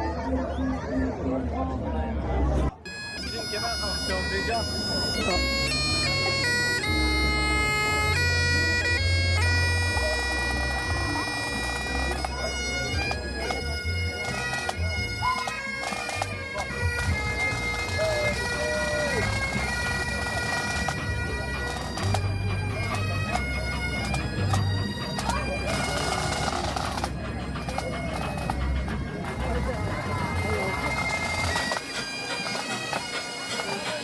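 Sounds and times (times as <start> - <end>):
bagpipes playing: 2.8 - 34.0.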